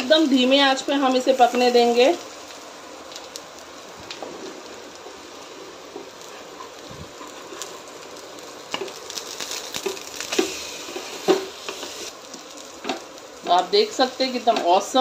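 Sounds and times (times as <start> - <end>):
bread slices sizzling in a pan: 0.0 - 15.0.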